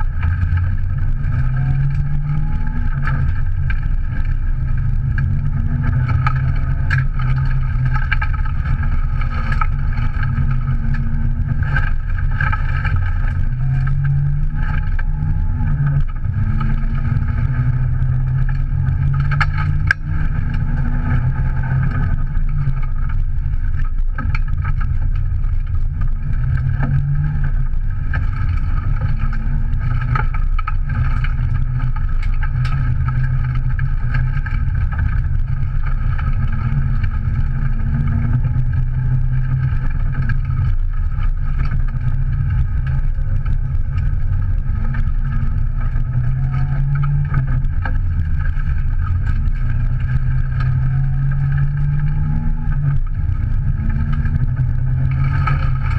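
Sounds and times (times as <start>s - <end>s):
car engine working hard: 0.0s - 55.9s
tyre and road noise: 0.0s - 55.9s.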